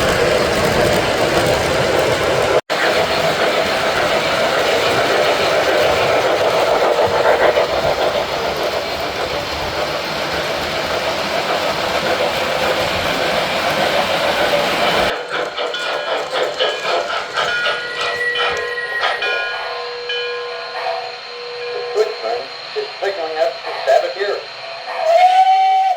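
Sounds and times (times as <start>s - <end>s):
model train rumbling: 0.0s - 25.9s.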